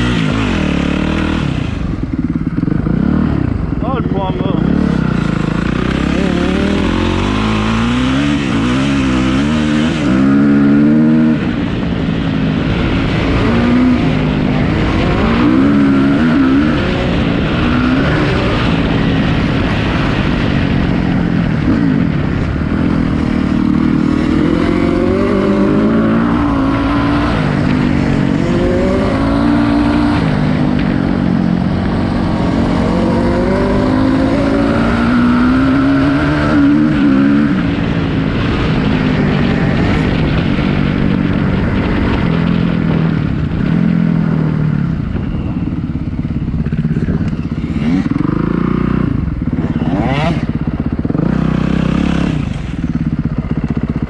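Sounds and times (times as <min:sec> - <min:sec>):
motocross bike engine revving: 0:00.0 - 0:44.5, 0:46.5 - 0:54.0.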